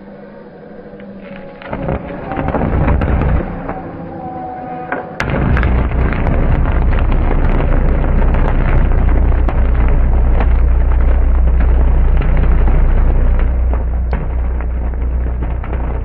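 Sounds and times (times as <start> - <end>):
deep steady electrical hum: 0.0 - 16.0
electric arcs crackling: 1.3 - 3.9, 5.2 - 16.0.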